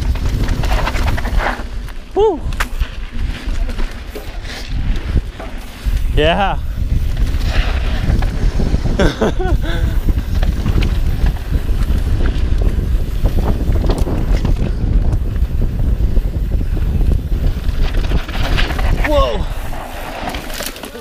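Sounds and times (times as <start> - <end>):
wind buffeting microphone: 0.0 - 20.4
bike clicks and rattles: 0.0 - 21.0
tyres rolling over dirt: 0.0 - 21.0.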